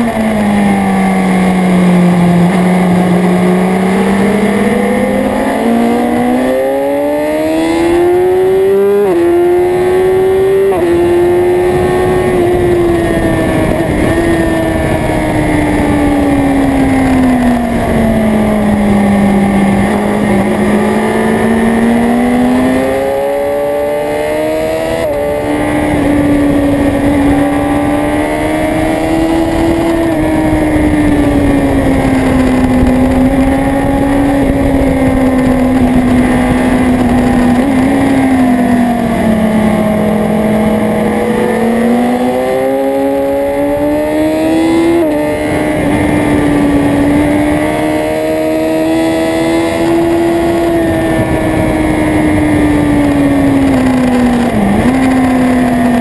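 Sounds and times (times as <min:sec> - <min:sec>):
motorcycle engine: 0:00.0 - 0:56.0
wind rushing: 0:01.2 - 0:56.0.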